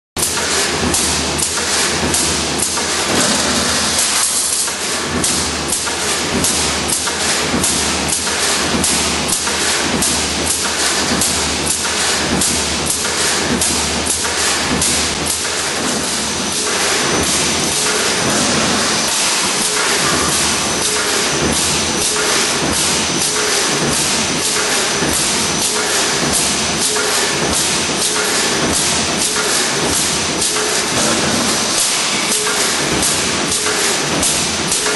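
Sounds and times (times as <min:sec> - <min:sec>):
machine knocking strokes: 0:00.2 - 0:34.9.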